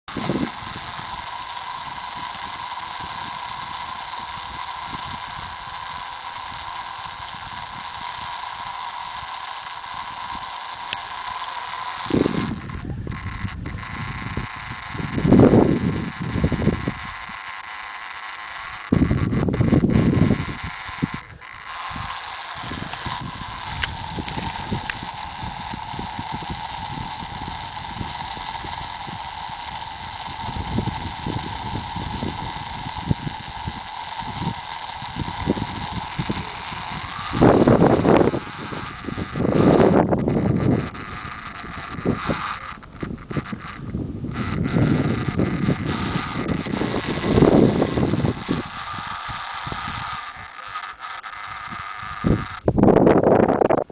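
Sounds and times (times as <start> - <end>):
faint steady hum: 0.1 - 53.9
wind buffeting microphone: 0.1 - 53.9.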